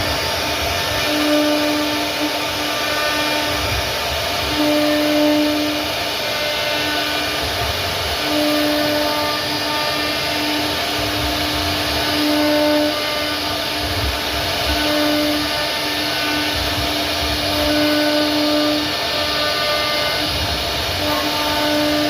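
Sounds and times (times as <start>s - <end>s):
router spindle cutting wood: 0.0s - 22.0s.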